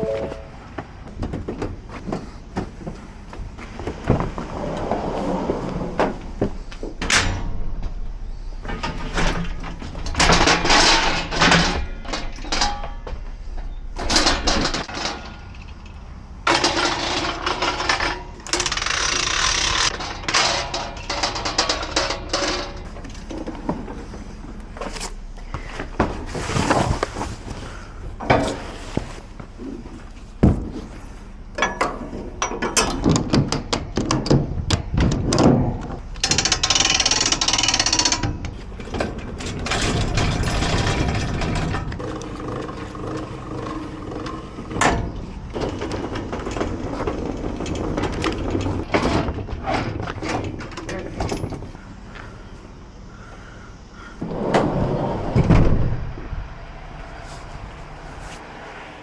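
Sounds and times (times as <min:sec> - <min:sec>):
rolling clattering noise: 0:00.0 - 0:59.0.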